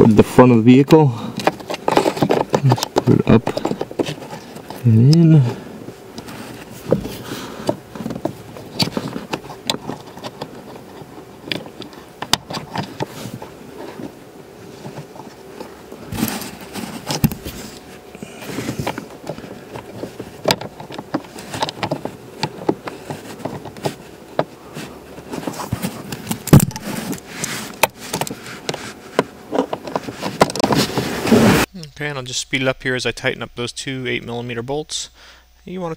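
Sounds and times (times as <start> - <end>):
hands handling plastic parts: 1.2 - 31.3.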